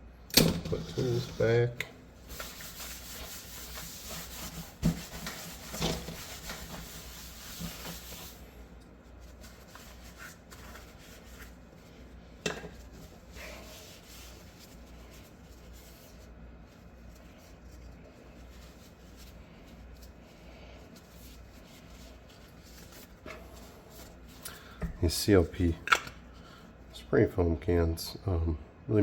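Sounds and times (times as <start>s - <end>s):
rubbing and wiping: 0.7s - 25.4s.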